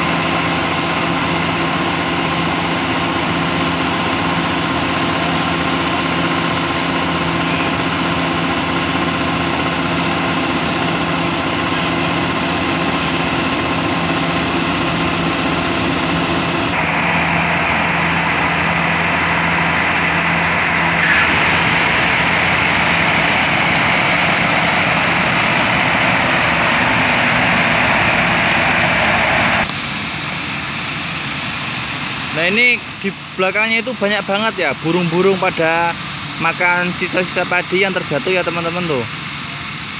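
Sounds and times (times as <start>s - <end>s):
auger unloading grain rush: 0.0s - 39.9s
diesel engine running: 0.0s - 39.9s.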